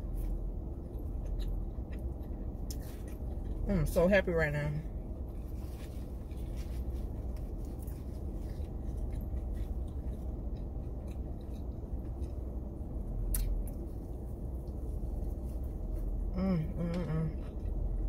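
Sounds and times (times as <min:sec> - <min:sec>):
person chewing crispy food: 0:00.0 - 0:03.7, 0:05.0 - 0:16.3
low steady hum: 0:00.0 - 0:18.0.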